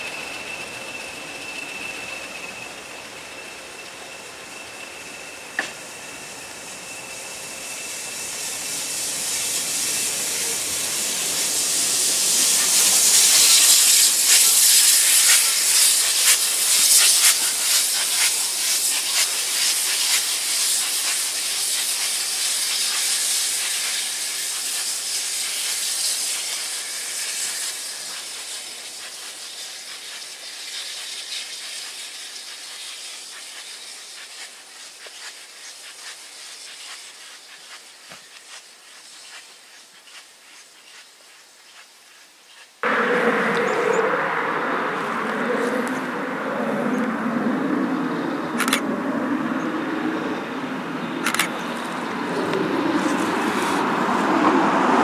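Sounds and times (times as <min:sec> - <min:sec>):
steam locomotive hiss: 0:00.0 - 0:47.8, 0:49.5 - 0:55.0.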